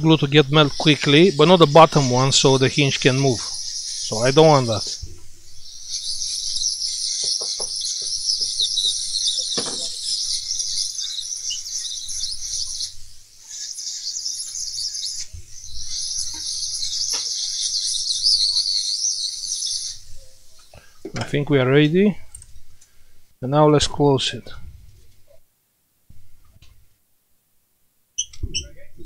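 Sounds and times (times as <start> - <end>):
hot-air station hissing: 0.0 - 24.6.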